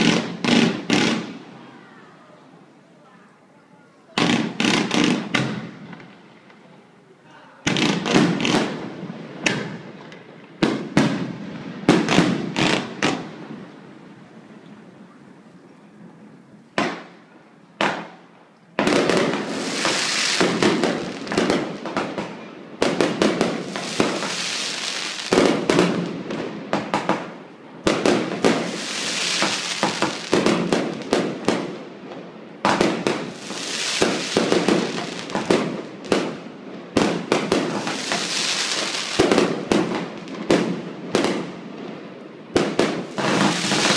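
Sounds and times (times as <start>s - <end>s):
fireworks bangs and crackling: 0.0s - 1.8s, 4.1s - 6.9s, 7.6s - 15.0s, 16.8s - 17.2s, 17.8s - 43.9s.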